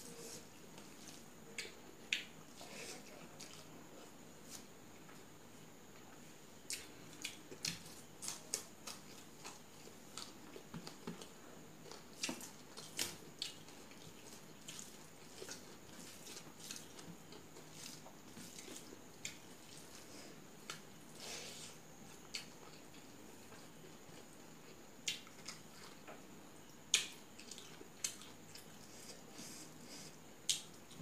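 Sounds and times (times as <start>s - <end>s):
person chewing food: 0.1s - 5.2s, 5.9s - 31.0s.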